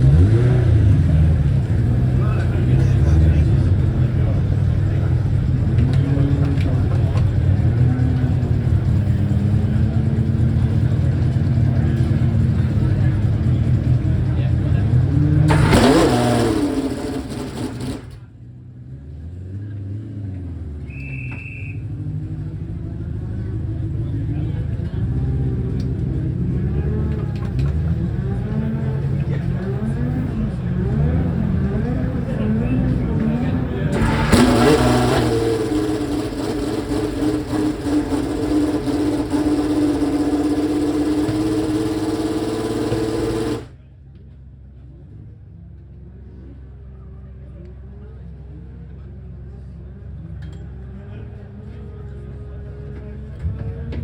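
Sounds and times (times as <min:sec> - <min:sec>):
racing engine revving and idling: 0:00.0 - 0:21.1, 0:21.7 - 0:54.0.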